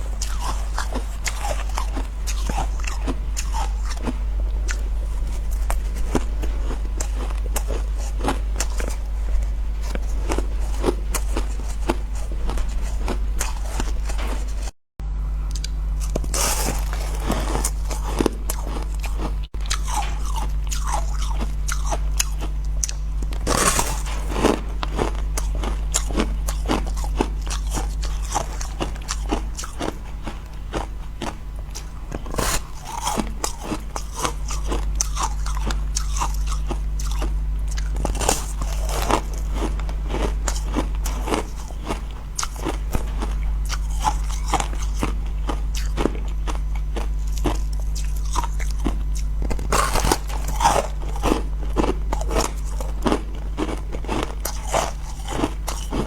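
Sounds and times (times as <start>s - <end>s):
chewing frozen ice: 0.0s - 14.8s, 15.5s - 56.0s
steady low hum: 0.0s - 56.0s.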